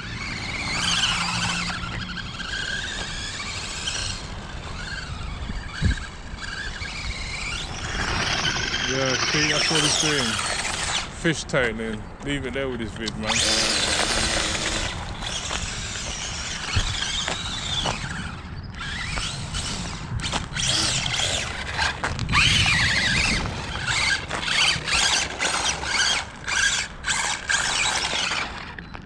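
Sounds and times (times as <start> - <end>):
wheels spinning on wet ground: 0.0 - 11.2, 13.1 - 29.0
electric motor whining: 0.0 - 11.5, 12.6 - 29.0.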